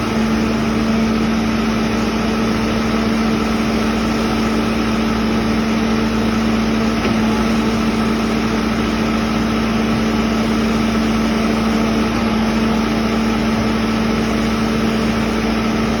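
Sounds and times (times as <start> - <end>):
backhoe engine running: 0.0 - 16.0.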